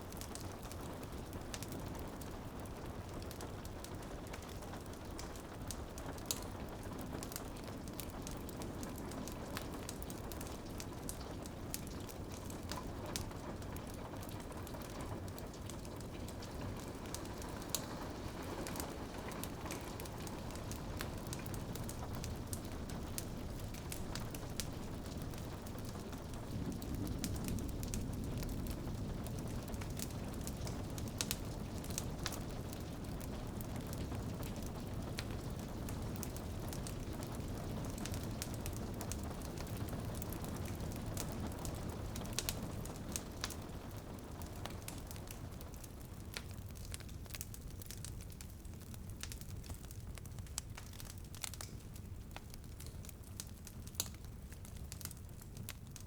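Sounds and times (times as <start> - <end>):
rain on a window: 0.0 - 56.0
wood fire crackling and popping: 0.0 - 56.0.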